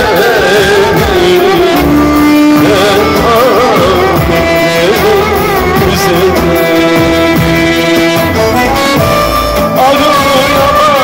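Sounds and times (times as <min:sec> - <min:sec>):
electronic keyboard: 0:00.0 - 0:11.0
violin melody: 0:01.0 - 0:11.0.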